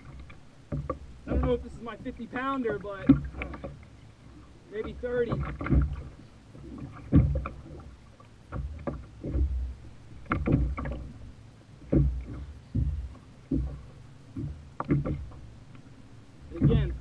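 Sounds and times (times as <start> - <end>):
water slapping plastic hull: 0.0 - 17.0.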